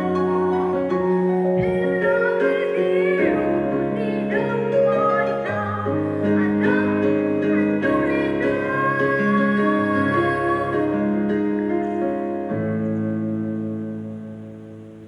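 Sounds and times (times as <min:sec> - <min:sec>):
song with sung melody: 0:00.0 - 0:15.0.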